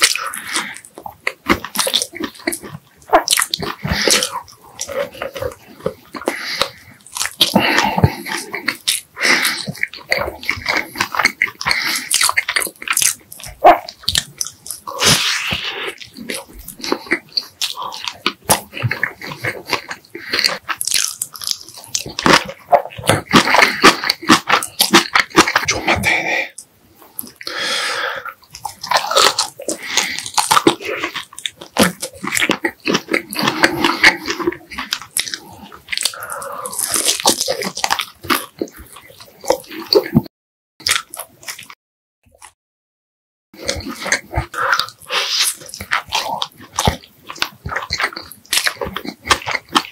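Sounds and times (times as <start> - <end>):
chewing and crunching food: 0.0 - 42.6, 43.6 - 49.9.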